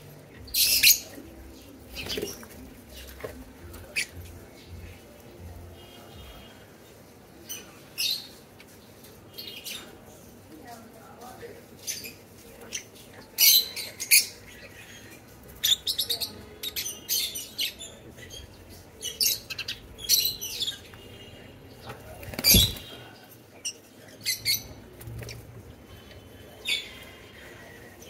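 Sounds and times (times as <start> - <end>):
lovebirds chirping: 0.0 - 28.0.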